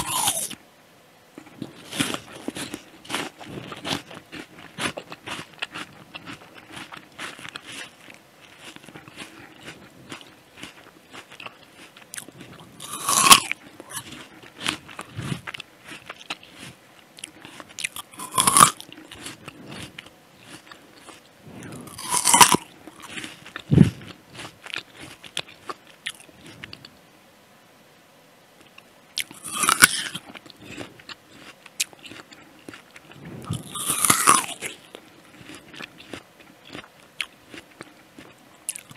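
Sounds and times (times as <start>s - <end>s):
crisp apple crunches: 0.0s - 0.6s, 1.4s - 27.0s, 28.6s - 38.9s
wet chewing: 0.0s - 0.6s, 1.4s - 27.0s, 28.6s - 38.9s.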